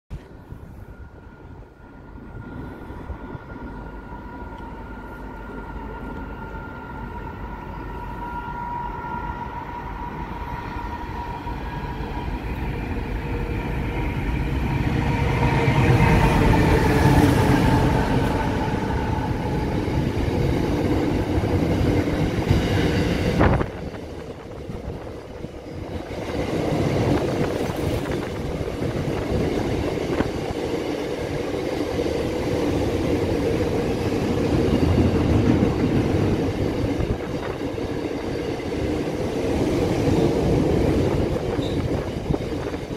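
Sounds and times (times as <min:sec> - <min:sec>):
diesel locomotive passing by: 0:00.1 - 0:42.9.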